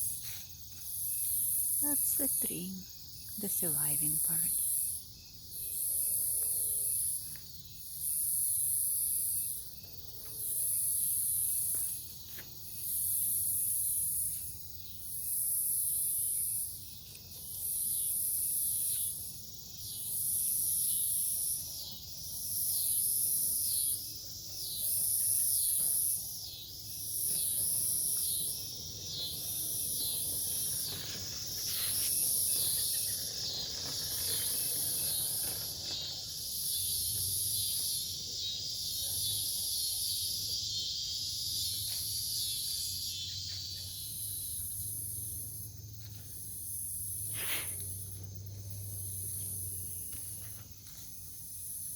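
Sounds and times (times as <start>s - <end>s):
cicadas buzzing: 0.0s - 51.9s
insect chirping rapidly: 0.8s - 50.5s.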